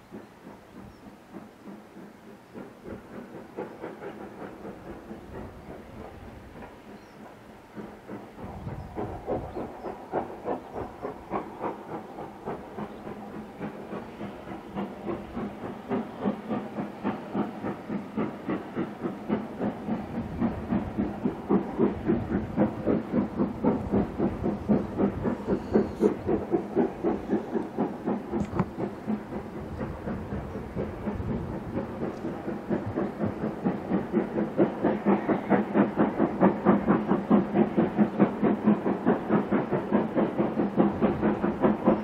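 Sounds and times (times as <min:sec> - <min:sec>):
steam locomotive exhaust beats: 0:00.0 - 0:42.0.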